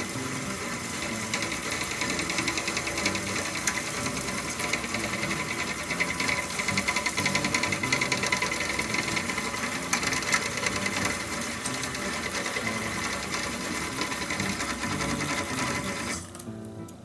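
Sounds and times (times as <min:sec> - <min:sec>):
fishing reel whirring: 0:00.0 - 0:16.2.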